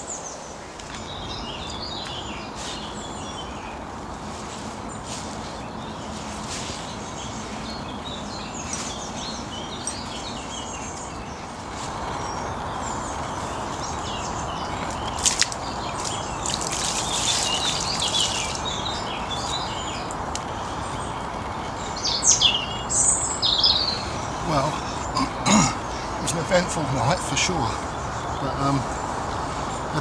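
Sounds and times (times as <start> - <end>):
songbirds chirping and singing: 0.0 - 30.0
steady outdoor hiss: 0.0 - 30.0.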